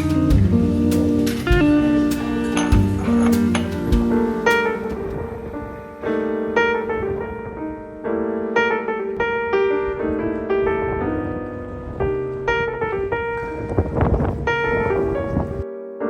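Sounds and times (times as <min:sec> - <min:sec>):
piano notes: 0:00.0 - 0:16.0.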